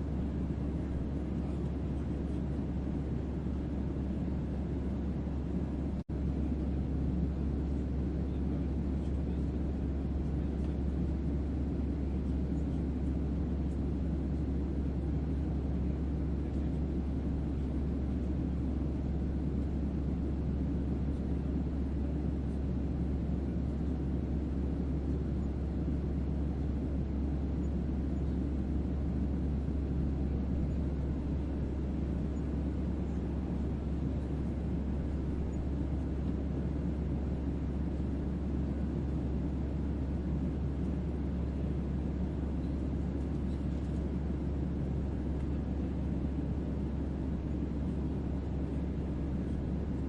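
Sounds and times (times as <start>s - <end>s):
low rumbling hum: 0.0s - 50.0s.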